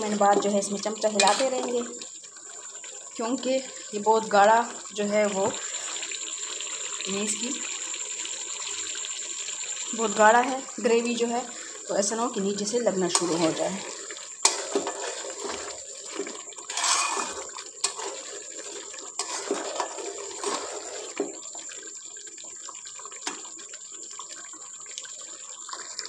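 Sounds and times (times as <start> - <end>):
curry bubbling and sizzling: 0.0 - 26.0.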